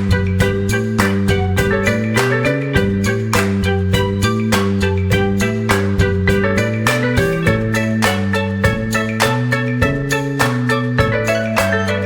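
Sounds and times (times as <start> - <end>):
light instrumental tune: 0.0 - 12.0
plucked or mallet-struck notes: 0.0 - 12.0.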